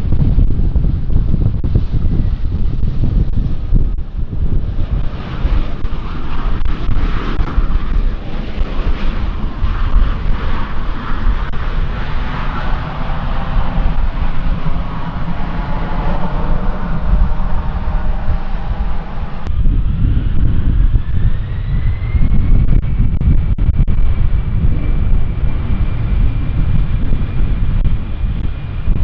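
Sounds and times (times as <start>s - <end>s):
airliner engines: 0.0s - 29.0s.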